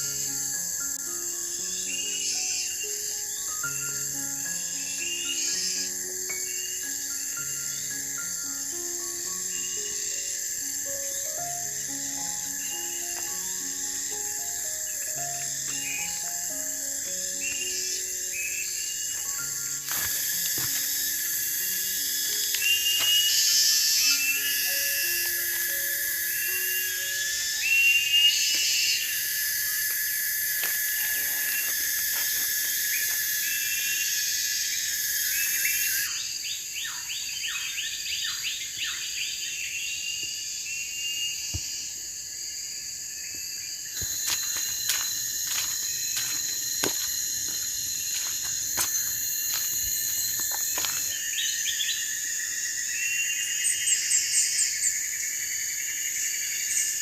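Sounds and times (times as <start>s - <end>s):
crickets trilling: 0.0s - 57.0s
insect chirping calls: 0.0s - 57.0s.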